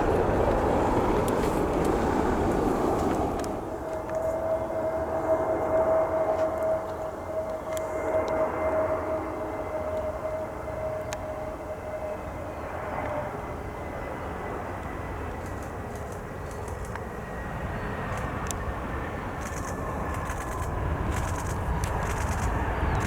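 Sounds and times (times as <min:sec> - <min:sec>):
jet airliner engines passing: 0:00.0 - 0:23.0.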